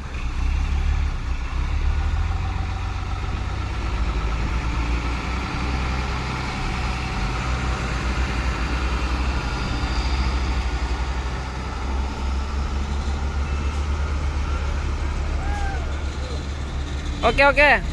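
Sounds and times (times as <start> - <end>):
diesel truck engine idling: 0.0 - 17.9.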